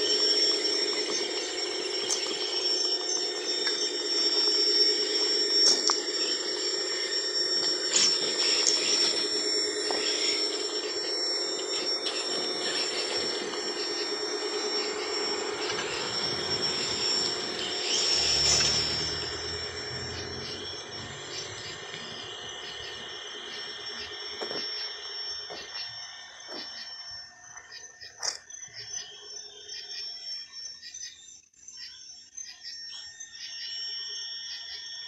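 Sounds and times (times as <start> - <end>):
low pulsing drone: 0.0 - 29.3
insects trilling: 0.0 - 35.0.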